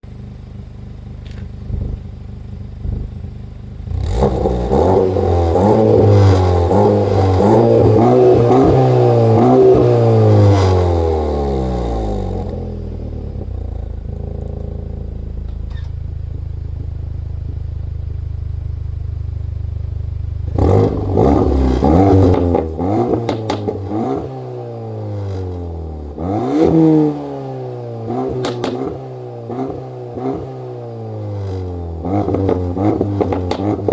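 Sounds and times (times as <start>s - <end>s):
exhaust crackles: 0.2s - 33.9s
car engine revving: 1.2s - 33.9s.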